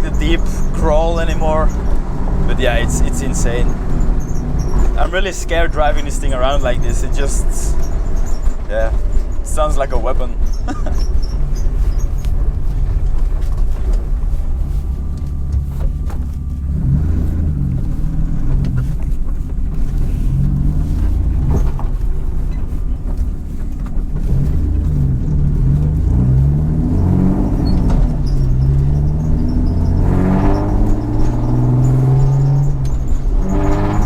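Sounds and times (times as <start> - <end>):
car engine with loud deep exhaust: 0.0 - 34.0.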